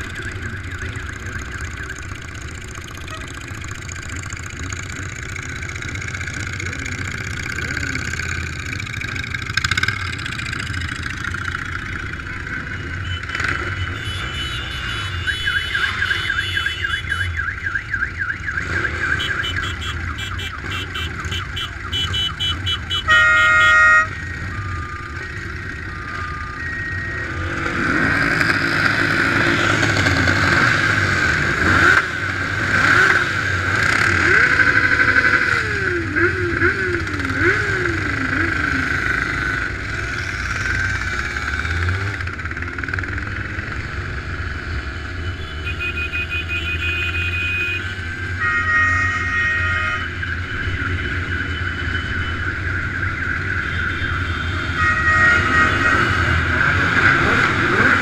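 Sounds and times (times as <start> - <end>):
motorcycle engines revving: 0.0 - 58.0
road noise: 0.0 - 58.0.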